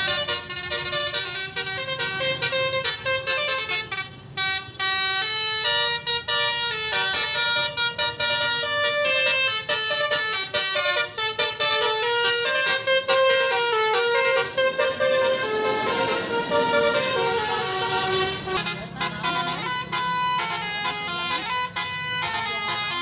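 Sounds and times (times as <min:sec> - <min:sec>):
musical air horn melody: 0:00.0 - 0:23.0.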